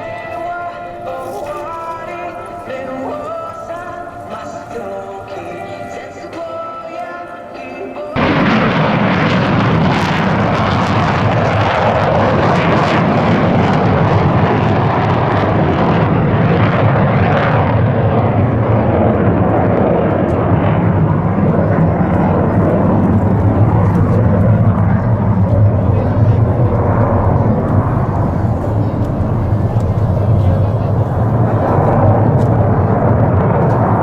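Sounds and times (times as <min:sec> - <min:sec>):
jet engine noise: 0:00.0 - 0:34.0.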